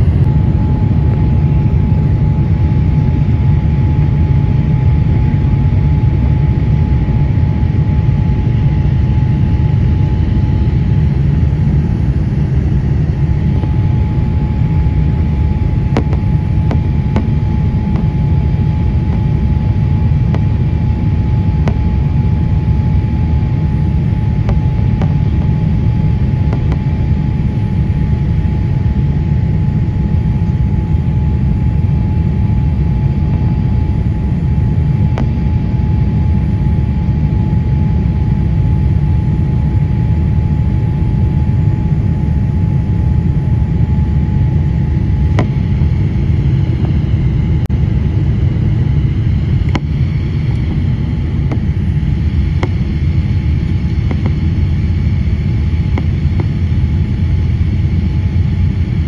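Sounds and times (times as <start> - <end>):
airflow and engine roar: 0.0 - 59.0
thin steady whine: 0.0 - 59.0.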